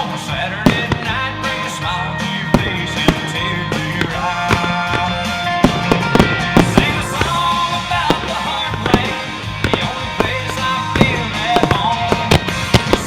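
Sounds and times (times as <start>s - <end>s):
fireworks bursting: 0.0s - 13.0s
rock music: 0.0s - 13.0s.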